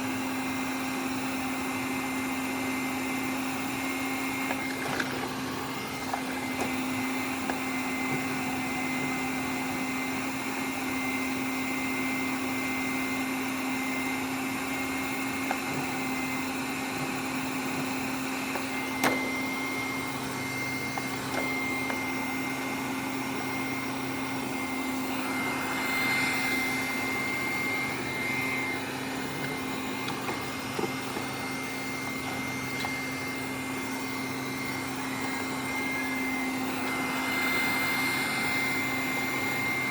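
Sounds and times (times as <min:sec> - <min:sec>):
robot vacuum cleaner running: 0:00.0 - 0:39.9.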